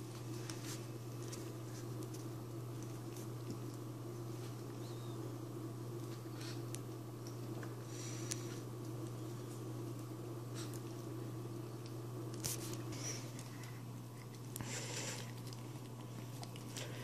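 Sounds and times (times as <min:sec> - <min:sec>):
puppy licking and chewing: 0:00.0 - 0:05.2, 0:05.9 - 0:17.0
steady low hum: 0:00.0 - 0:17.0.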